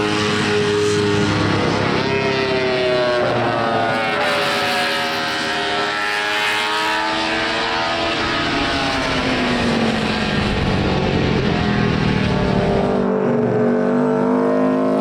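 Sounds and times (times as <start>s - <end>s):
racing motorcycle engine running hard: 0.0s - 15.0s.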